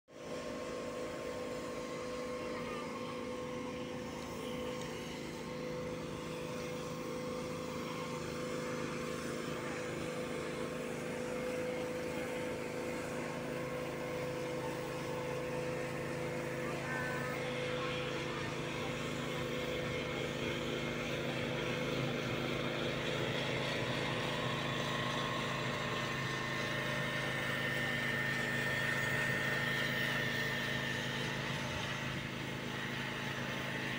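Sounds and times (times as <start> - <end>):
mechanical drone: 0.6 - 33.9.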